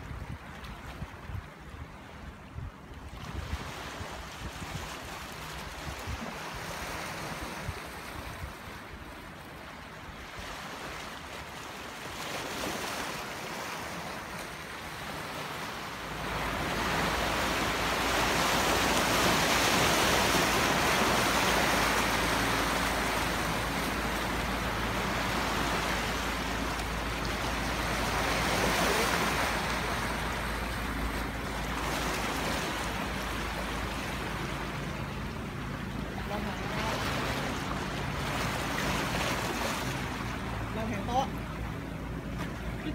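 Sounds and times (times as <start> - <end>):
sea surf breaking: 3.1 - 42.9.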